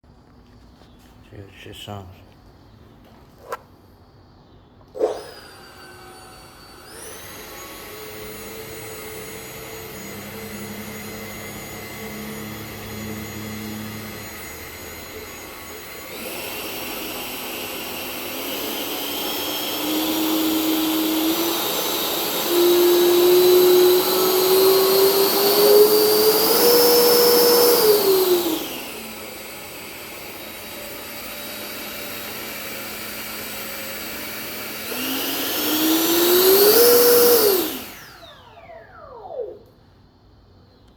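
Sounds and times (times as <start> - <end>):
model jet engine whine: 4.9 - 39.8.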